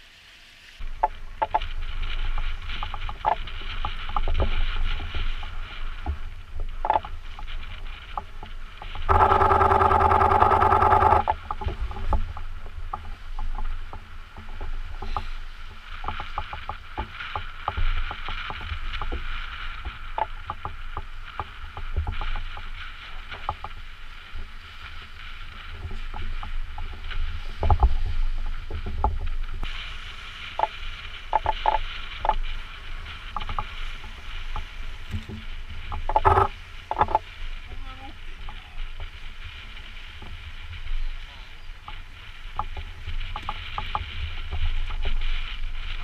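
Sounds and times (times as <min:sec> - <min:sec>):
low rumble: 0:00.0 - 0:46.0
rough buzzing rush: 0:00.0 - 0:46.0
waves lapping against rocks: 0:00.8 - 0:46.0.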